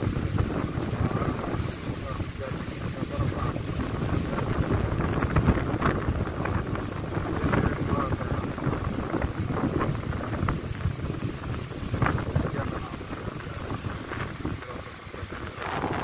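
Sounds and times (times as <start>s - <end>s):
heavy rain pouring: 0.0s - 16.0s
rain spattering close by: 0.0s - 16.0s
wind buffeting microphone: 0.0s - 16.0s.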